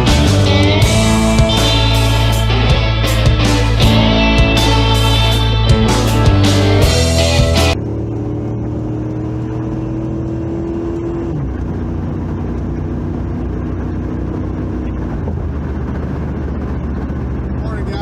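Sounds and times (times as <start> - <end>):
car engine hum inside cabin: 0.0 - 18.0
road rumble: 0.0 - 18.0.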